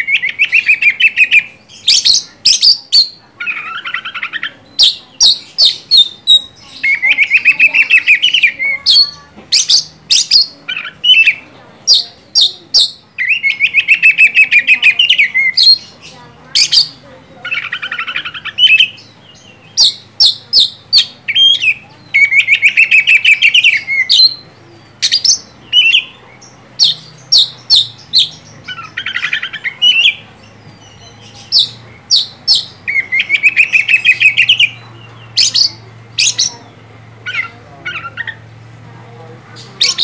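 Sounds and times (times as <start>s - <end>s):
buzzy bird trills: 0.0s - 38.7s.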